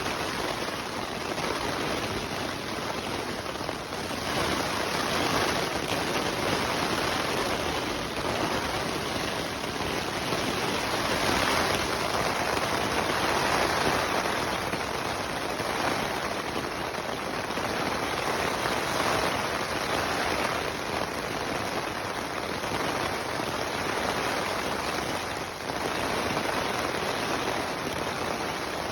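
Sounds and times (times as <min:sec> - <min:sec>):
rain drumming on tent fabric: 0:00.0 - 0:28.9.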